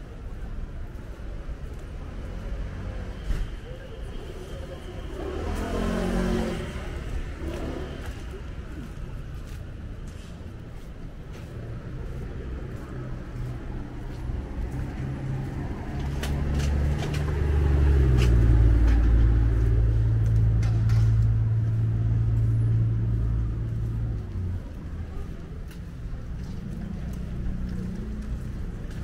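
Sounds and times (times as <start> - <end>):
street background noise: 0.0 - 29.0
vehicle engine hum: 0.0 - 29.0.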